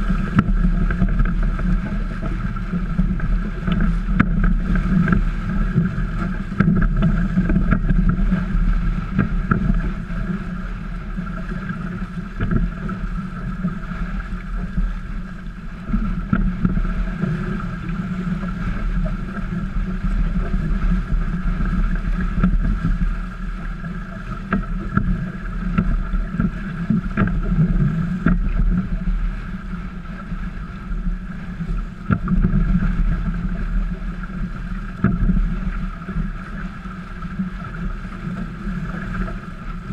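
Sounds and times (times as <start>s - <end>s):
water rushing along boat hulls: 0.0s - 39.9s
wind buffeting microphone: 0.0s - 39.9s.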